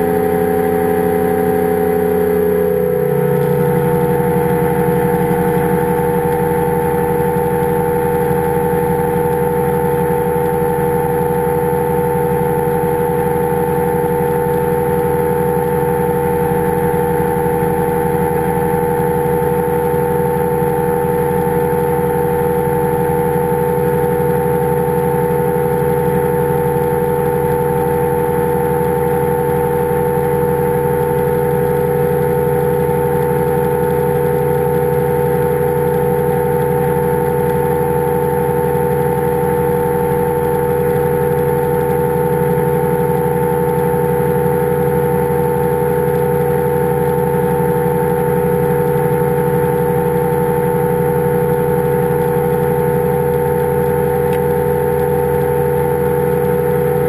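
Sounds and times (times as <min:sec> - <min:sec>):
engine and propeller drone: 0:00.0 - 0:57.0.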